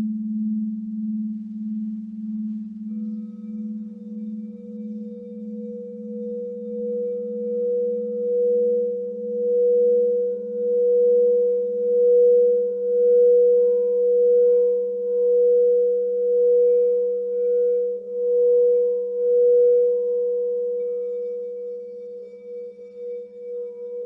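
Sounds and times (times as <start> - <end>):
singing bowl tone: 0.0 - 24.0.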